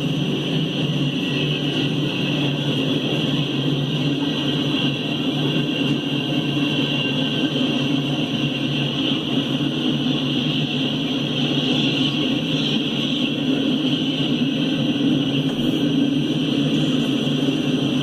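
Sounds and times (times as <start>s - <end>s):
freight train engine drone: 0.0s - 18.0s
high whine: 0.0s - 18.0s.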